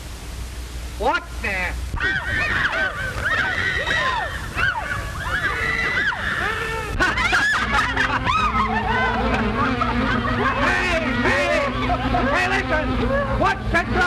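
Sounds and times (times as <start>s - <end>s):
several voices yelling: 1.9s - 14.0s.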